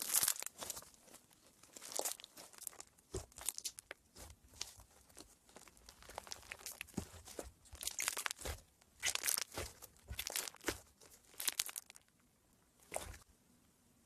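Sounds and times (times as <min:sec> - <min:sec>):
slime crackling and crunching: 0:00.0 - 0:12.1, 0:12.8 - 0:13.2.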